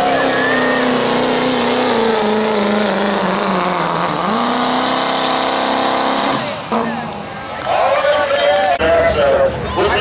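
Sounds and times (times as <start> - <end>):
diesel engine at full throttle: 0.0 - 10.0.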